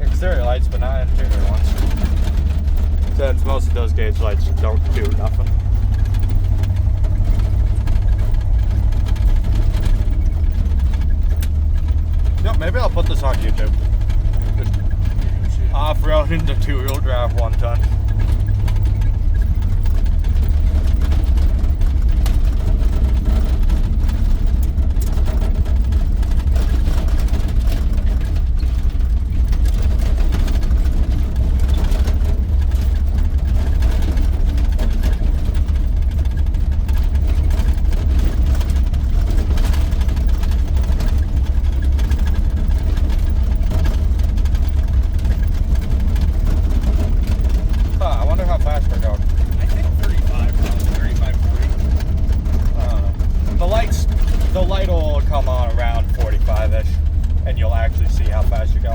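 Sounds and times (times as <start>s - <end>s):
road noise: 0.0s - 58.9s
truck engine drone: 0.0s - 58.9s.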